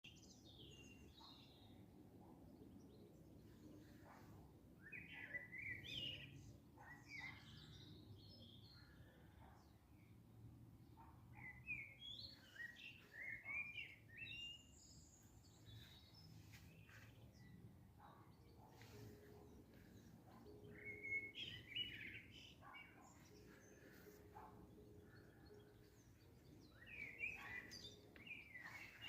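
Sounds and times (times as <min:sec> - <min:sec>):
faint background noise: 0:00.1 - 0:29.0.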